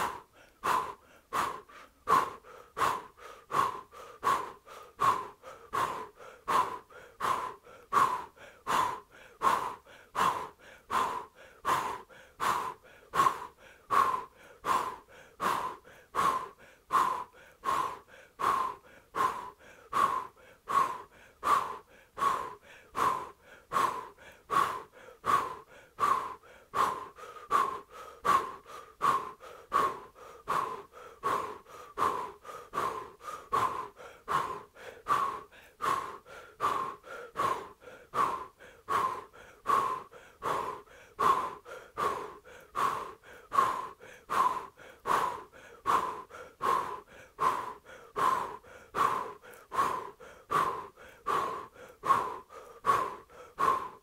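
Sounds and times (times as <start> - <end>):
forceful rapid breathing: 0.0 - 54.0.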